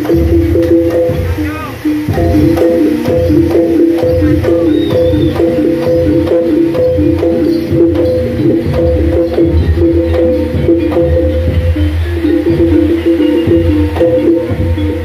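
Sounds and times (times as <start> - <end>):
deep bass drum: 0.0 - 15.0
dense drumming: 0.0 - 15.0
pitched percussion notes: 0.0 - 15.0.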